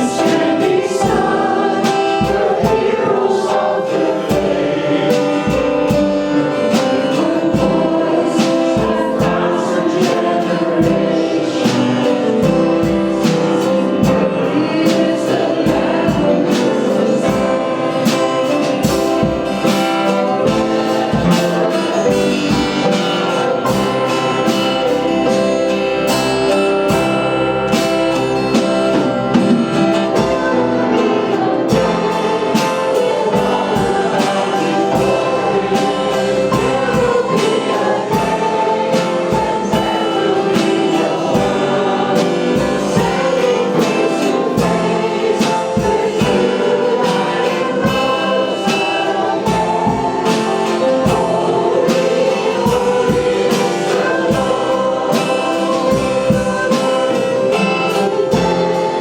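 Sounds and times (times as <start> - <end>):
band with steady beat: 0.0 - 59.0
choir singing gospel song: 0.0 - 59.0.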